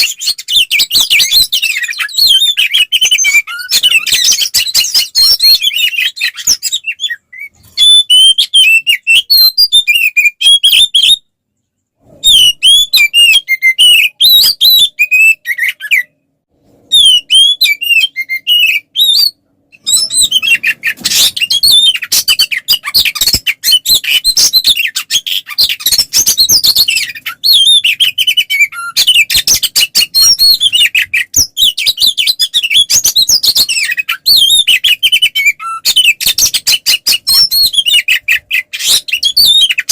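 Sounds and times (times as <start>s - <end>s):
bird singing chirps and trills: 0.0s - 11.2s, 16.9s - 39.9s.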